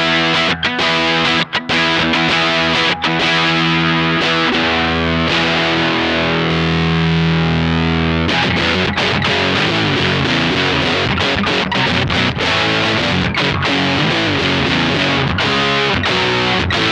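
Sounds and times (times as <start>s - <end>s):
fuzz-distorted electric guitar chords: 0.0s - 16.9s.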